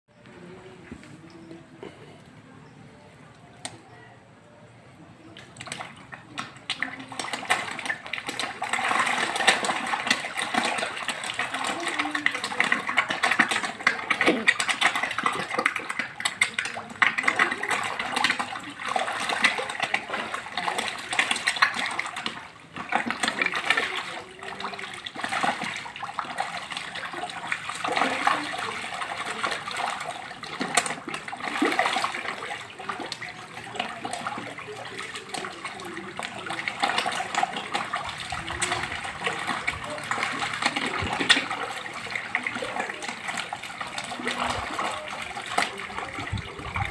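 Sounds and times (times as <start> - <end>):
fish splashing at water surface: 5.1 - 46.9.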